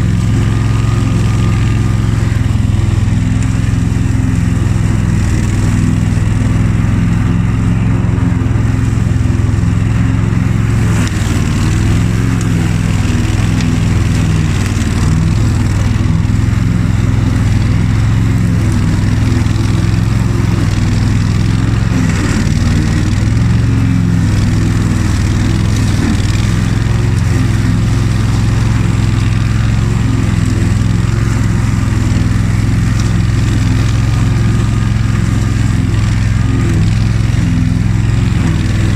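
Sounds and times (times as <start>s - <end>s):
ride-on mower engine droning: 0.0s - 38.9s.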